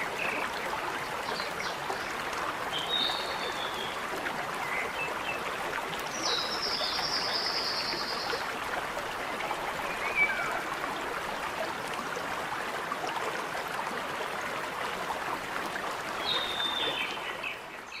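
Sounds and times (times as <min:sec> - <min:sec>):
stream flowing and trickling: 0:00.0 - 0:18.0.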